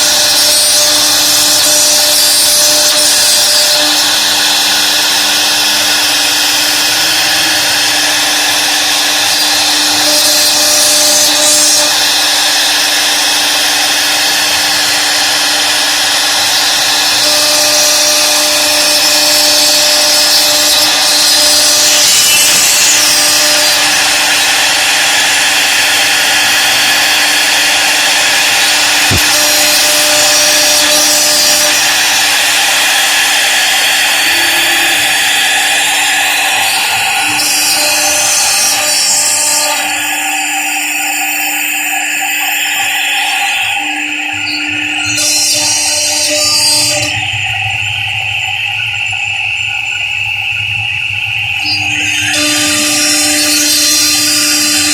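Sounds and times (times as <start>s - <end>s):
router spindle cutting wood: 0.0s - 54.9s.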